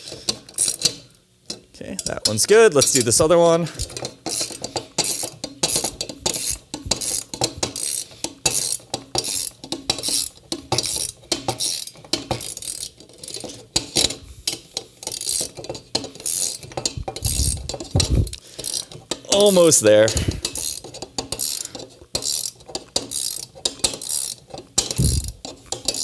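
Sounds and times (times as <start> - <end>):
hand ratchet clicking: 0.0 - 26.0.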